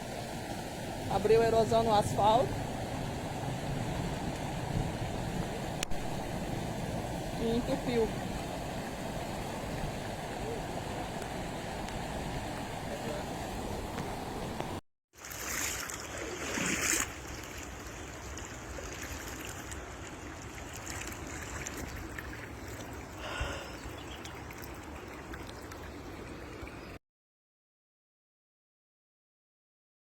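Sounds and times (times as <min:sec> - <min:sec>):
water rushing in a flooded street: 0:00.0 - 0:26.1.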